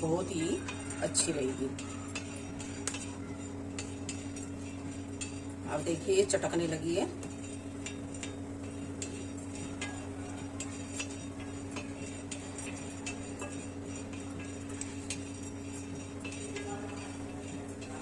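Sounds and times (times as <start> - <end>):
spices crackling on hot pan: 0.0 - 18.0
steady low hum: 0.0 - 18.0.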